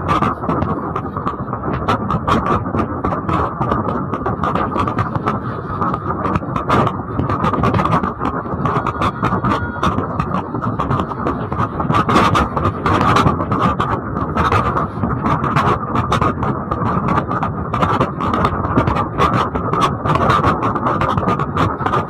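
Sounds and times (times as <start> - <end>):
crackles: 0.0 - 22.0.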